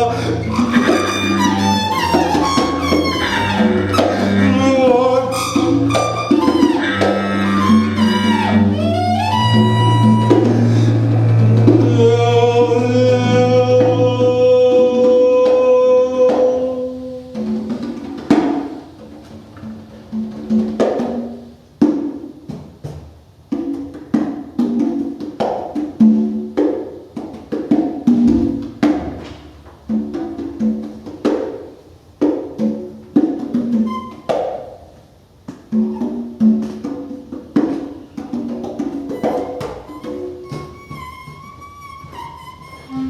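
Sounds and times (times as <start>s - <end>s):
congas played by hand: 0.0s - 43.0s.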